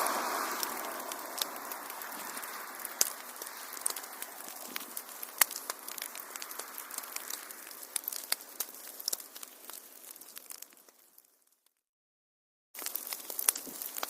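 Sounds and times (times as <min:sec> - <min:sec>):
wood fire crackling and popping: 0:00.0 - 0:11.8, 0:12.8 - 0:14.0.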